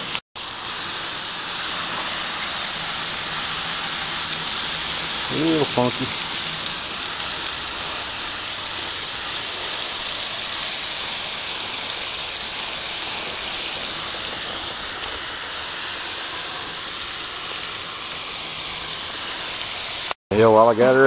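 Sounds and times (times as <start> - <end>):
water spraying onto metal coil: 0.4 - 20.2.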